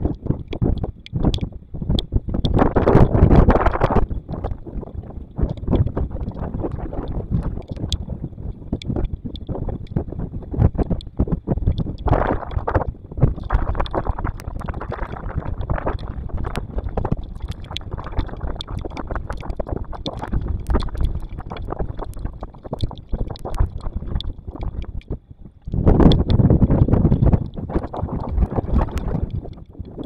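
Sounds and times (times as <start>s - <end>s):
storm wind buffeting microphone: 0.0s - 30.0s.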